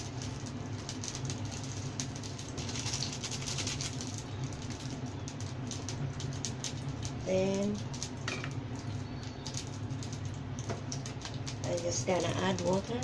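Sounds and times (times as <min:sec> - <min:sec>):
dumplings frying in hot oil: 0:00.0 - 0:13.0.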